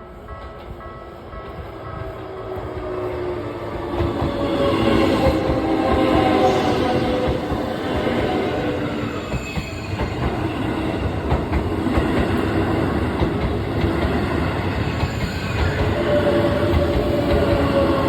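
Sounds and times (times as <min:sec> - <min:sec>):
electric train running past: 0:00.0 - 0:18.0.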